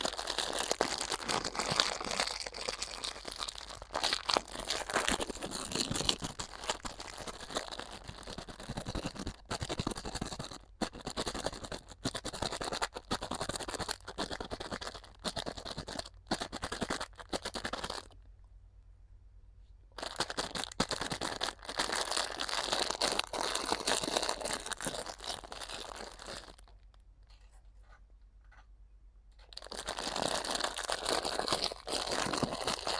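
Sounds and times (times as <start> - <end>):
crinkly material being handled: 0.0 - 18.1, 20.0 - 28.1, 29.4 - 32.9.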